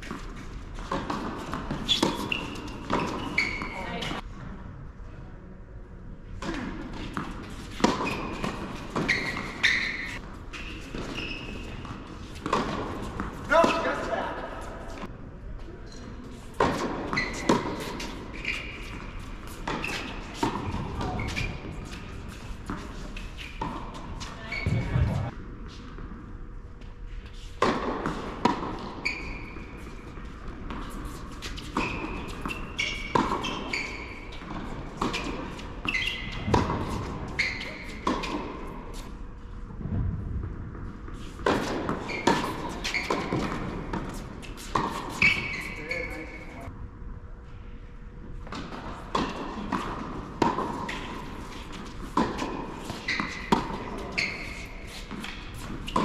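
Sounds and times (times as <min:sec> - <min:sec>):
tennis balls bouncing on hard court: 0:00.0 - 0:04.2, 0:06.4 - 0:13.9, 0:16.5 - 0:25.4, 0:27.6 - 0:38.9, 0:40.4 - 0:46.3, 0:48.4 - 0:56.0.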